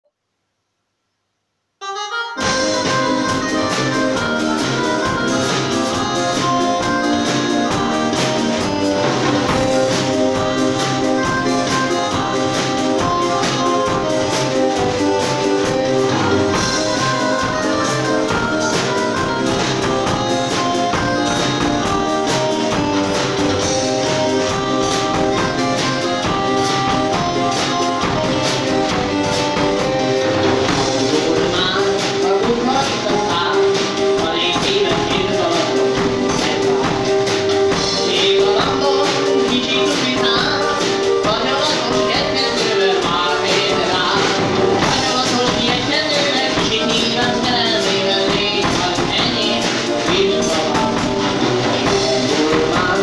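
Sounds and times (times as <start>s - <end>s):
brass-like melody: 1.8s - 53.0s
keyboard chords: 1.8s - 53.0s
drum kit steady beat: 2.4s - 53.0s.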